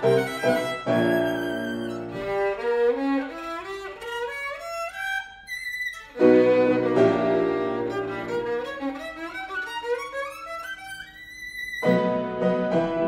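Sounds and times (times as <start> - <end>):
violin playing fast runs: 0.0 - 12.0.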